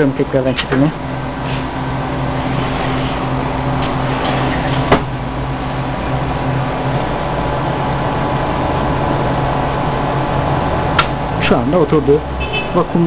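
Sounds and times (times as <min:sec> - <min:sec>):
vacuum pump running: 0:00.0 - 0:13.0
low hum: 0:00.1 - 0:12.3.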